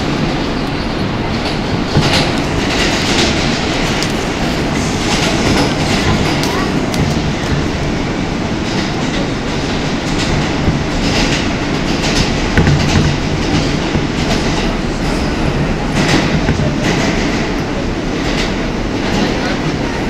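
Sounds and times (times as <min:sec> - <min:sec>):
subway car rumbling in tunnel: 0:00.0 - 0:20.0
wheels clacking over rail joints: 0:00.0 - 0:20.0.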